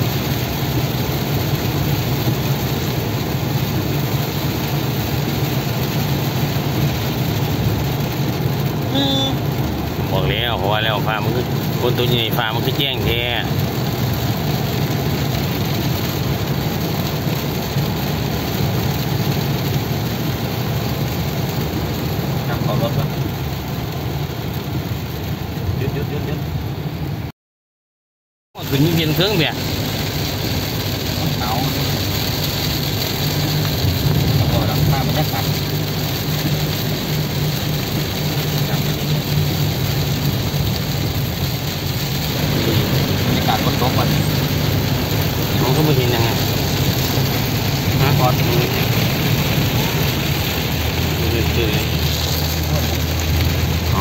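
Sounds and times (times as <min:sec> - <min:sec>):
car driving on wet road: 0:00.0 - 0:27.3, 0:28.6 - 0:54.0
rain drumming on car roof: 0:00.0 - 0:27.3, 0:28.6 - 0:54.0.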